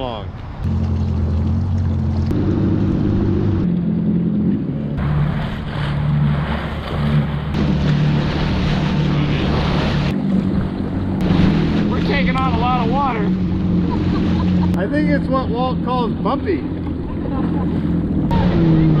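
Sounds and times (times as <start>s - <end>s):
water splashing: 0.4s - 19.0s
jet ski engine drone: 0.6s - 19.0s.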